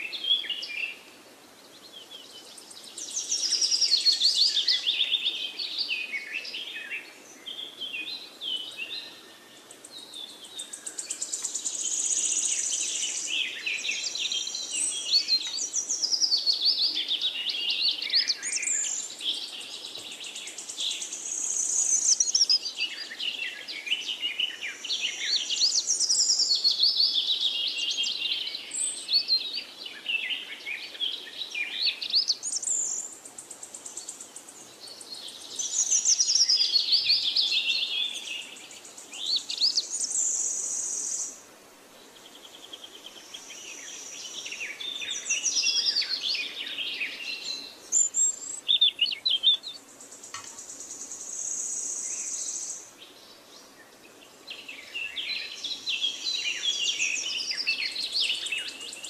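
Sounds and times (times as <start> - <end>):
small birds chirping and trilling: 0.0 - 59.0.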